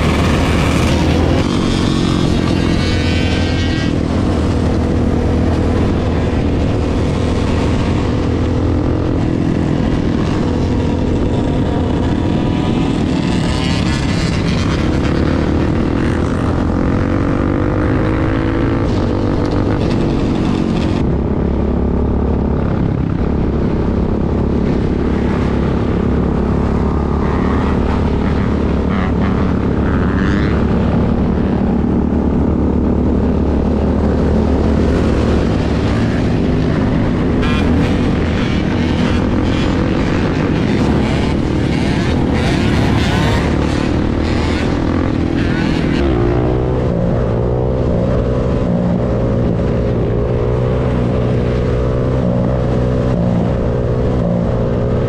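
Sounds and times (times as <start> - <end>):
quad and dirt bike engines: 0.0 - 55.0
wind noise: 0.0 - 55.0.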